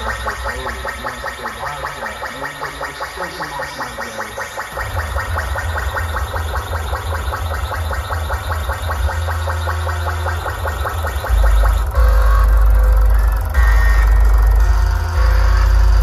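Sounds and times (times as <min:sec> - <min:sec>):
loud electronic music: 0:00.0 - 0:16.0.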